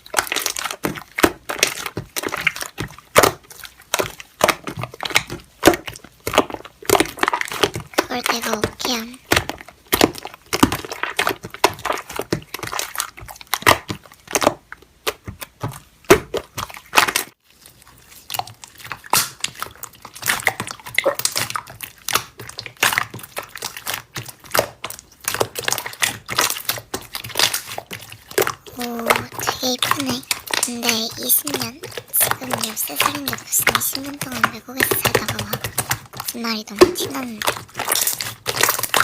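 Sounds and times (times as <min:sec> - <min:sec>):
slime squished by hand: 0:00.0 - 0:39.0.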